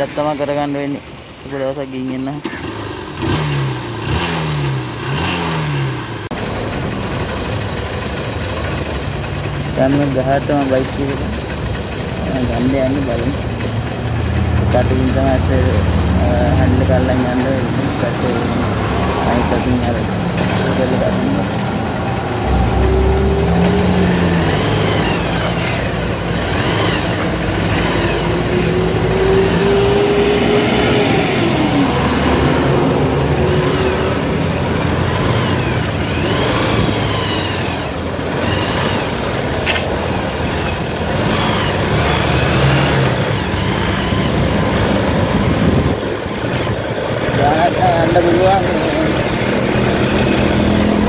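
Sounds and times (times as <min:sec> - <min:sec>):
other vehicles passing: 0:00.0 - 0:51.0
wind and road noise: 0:00.0 - 0:51.0
motorcycle engine revving: 0:01.6 - 0:51.0.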